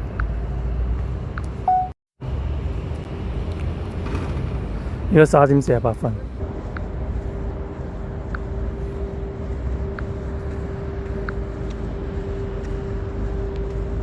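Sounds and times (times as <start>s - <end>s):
constant hum: 0.0s - 14.0s
low outdoor rumble: 2.2s - 14.0s.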